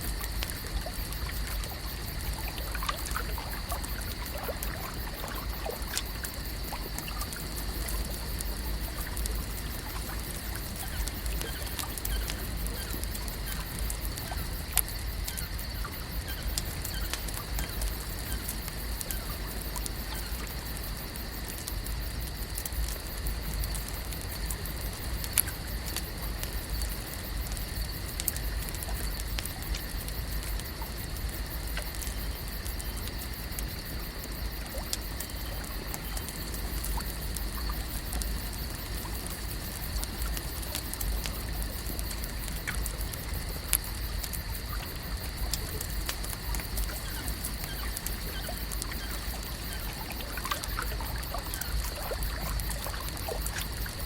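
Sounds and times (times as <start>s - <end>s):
small ticks and clicks: 0.0s - 54.0s.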